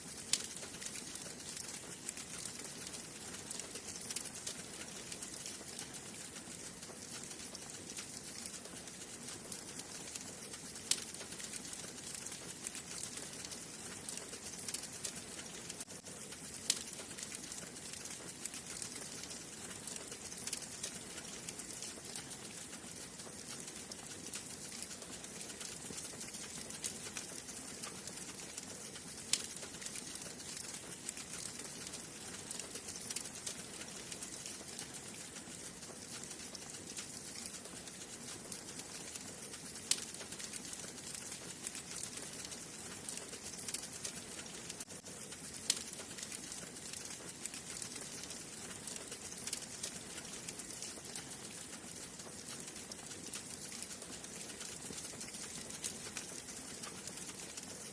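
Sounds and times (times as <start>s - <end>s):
fire crackling and popping: 0.0s - 57.9s
wood fire hissing: 0.0s - 57.9s.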